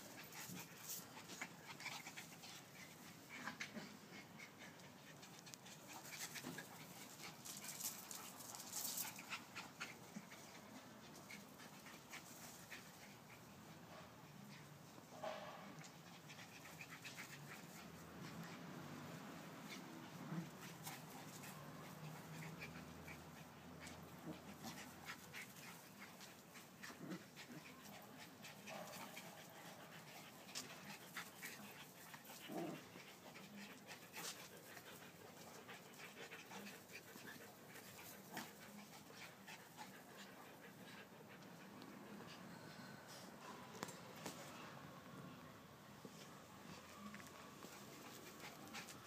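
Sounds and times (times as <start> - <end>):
dogs panting: 0.0 - 14.7, 15.8 - 42.5, 46.8 - 49.0.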